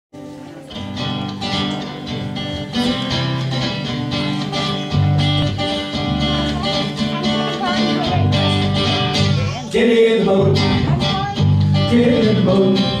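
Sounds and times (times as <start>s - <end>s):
electric guitar: 0.2s - 13.0s
strummed acoustic guitar: 0.2s - 13.0s.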